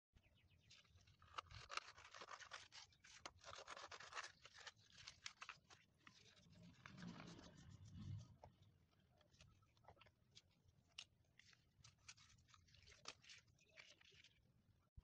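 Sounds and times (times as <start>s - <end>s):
newspaper rustling and crinkling: 0.7s - 14.6s.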